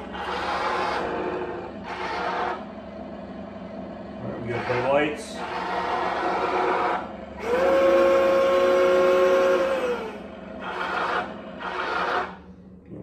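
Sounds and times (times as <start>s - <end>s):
toy tank motor whine: 0.0s - 2.7s, 4.2s - 12.4s.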